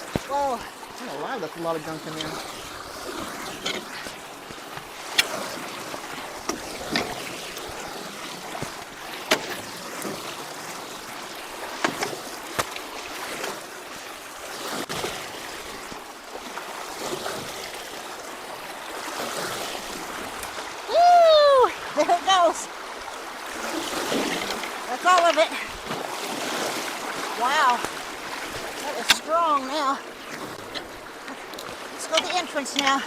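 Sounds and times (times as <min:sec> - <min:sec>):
sharp knocks and splashes: 0:00.0 - 0:20.9, 0:21.8 - 0:33.0
water rushing through culvert: 0:00.0 - 0:33.0.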